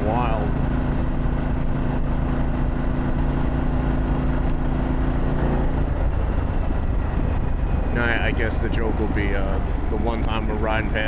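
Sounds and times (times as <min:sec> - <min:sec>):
motorcycle engine cruising: 0:00.0 - 0:11.0
wind rush on microphone: 0:00.0 - 0:11.0.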